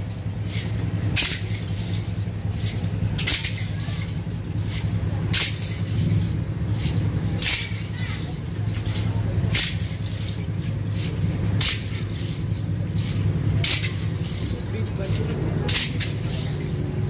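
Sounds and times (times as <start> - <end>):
small clatters: 0.0 - 17.0
steady low hum: 0.0 - 17.0
whips slapping bare backs: 0.0 - 17.0.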